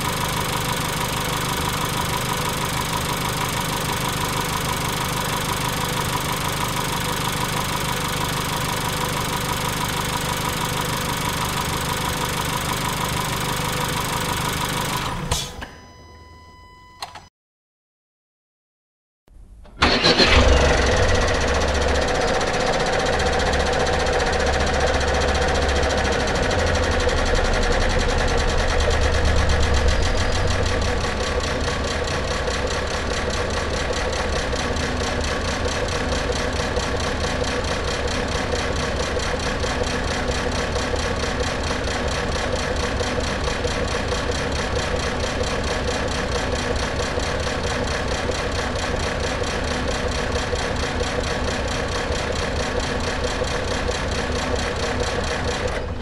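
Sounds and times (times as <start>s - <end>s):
car engine idling: 0.0s - 15.5s, 19.8s - 56.0s.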